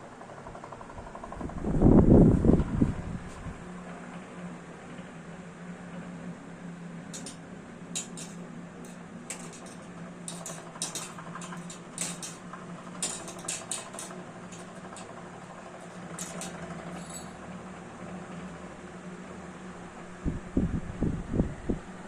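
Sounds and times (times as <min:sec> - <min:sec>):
wall fan humming: 0:00.0 - 0:22.0.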